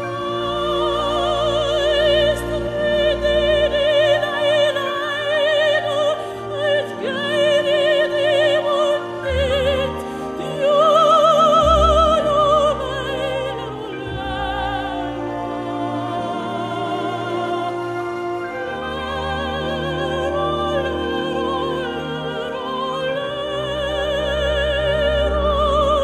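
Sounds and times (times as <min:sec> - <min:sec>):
instrumental accompaniment: 0:00.0 - 0:26.0
operatic singing with vibrato: 0:00.0 - 0:26.0.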